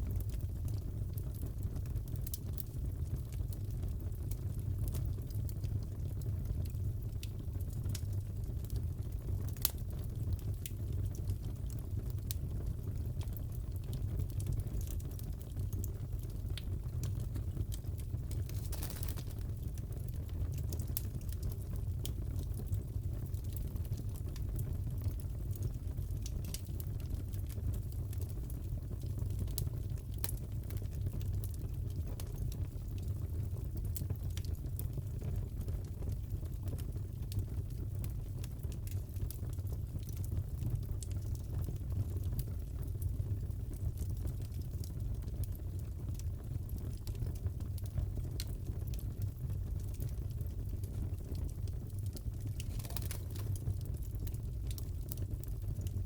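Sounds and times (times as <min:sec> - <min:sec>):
fire popping and snapping: 0:00.0 - 0:56.0
fire rumbling: 0:00.0 - 0:56.0.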